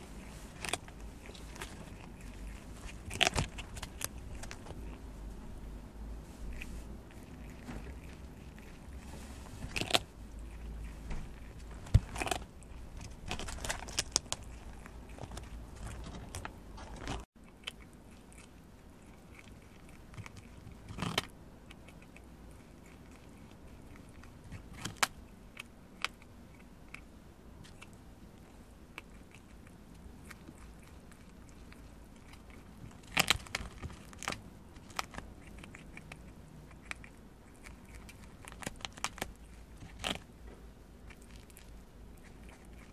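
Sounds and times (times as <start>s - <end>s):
animal gnawing corn: 0.0s - 5.5s, 6.4s - 42.9s.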